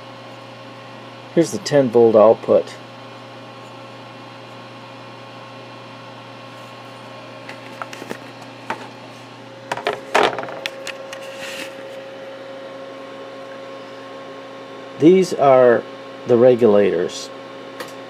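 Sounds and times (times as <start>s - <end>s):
electrical hum with held tones: 0.0s - 18.0s.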